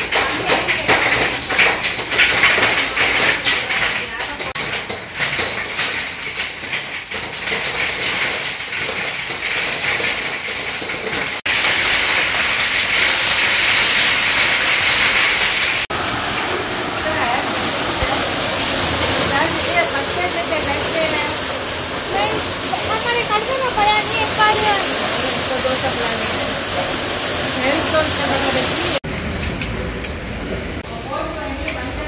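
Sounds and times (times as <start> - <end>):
hail clattering on a door: 0.0 - 29.7
hail and rain on a window: 0.0 - 30.2, 30.8 - 32.0.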